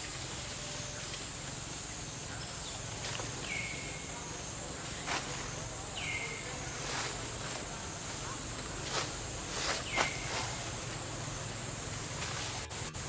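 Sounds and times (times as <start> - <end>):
high-pitched insect buzz: 0.0 - 13.0.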